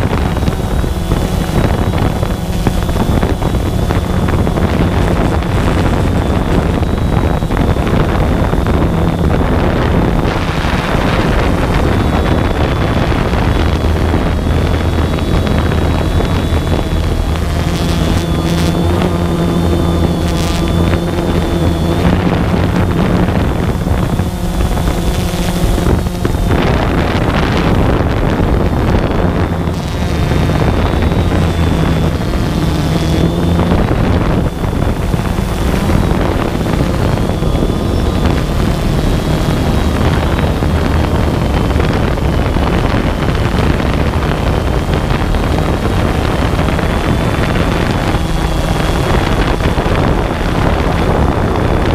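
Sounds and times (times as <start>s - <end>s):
drone motors humming: 0.0s - 51.9s
wind buffeting microphone: 0.0s - 51.9s.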